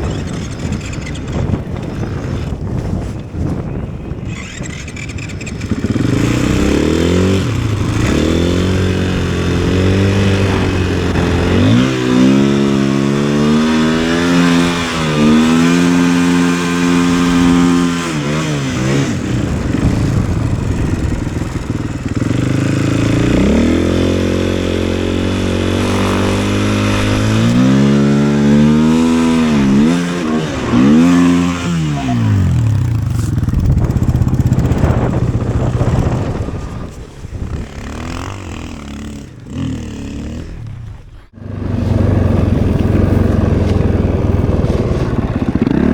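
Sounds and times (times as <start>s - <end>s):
wind on microphone: 0.0s - 45.9s
dirt bike engine revving: 4.2s - 45.9s.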